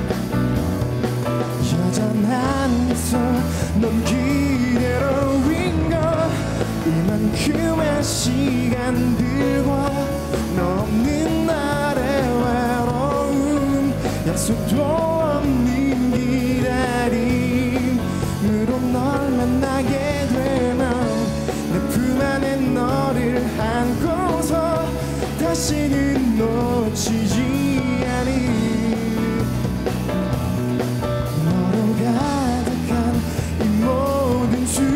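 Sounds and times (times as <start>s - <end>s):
pop-rock band playing: 0.0s - 34.9s
man singing: 1.3s - 30.1s, 31.0s - 34.9s.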